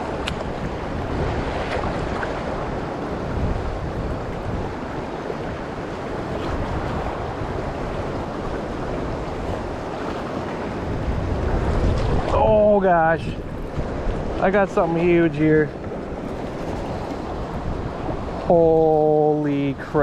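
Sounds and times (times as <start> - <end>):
choppy river water: 0.0 - 20.0
wind rumbling on microphone: 0.0 - 20.0.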